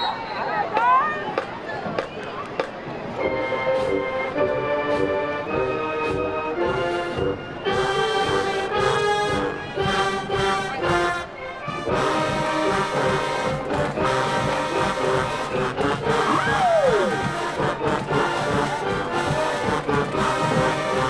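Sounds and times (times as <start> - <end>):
percussion pulses: 0.7 - 21.0
marching band brass: 0.8 - 21.0.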